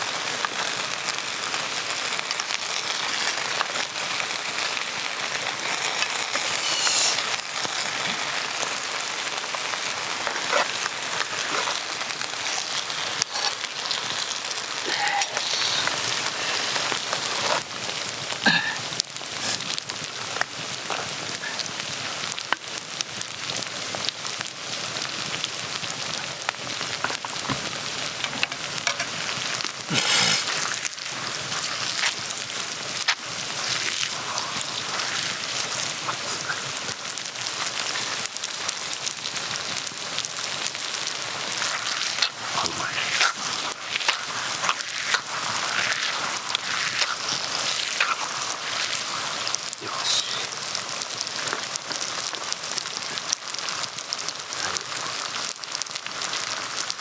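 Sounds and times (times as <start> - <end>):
food sizzling in oil: 0.0 - 57.0
wood fire crackling: 0.0 - 57.0.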